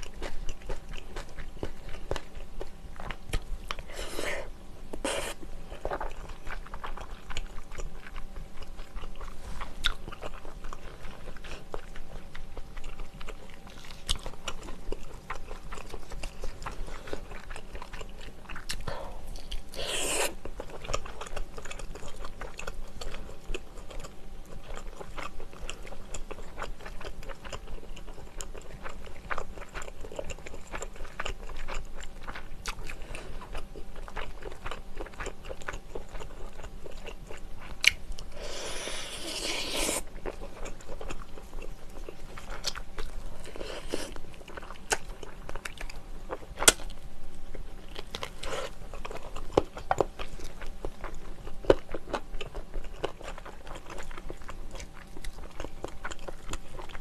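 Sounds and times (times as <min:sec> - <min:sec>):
chewing and biting food: 0:00.0 - 0:57.0.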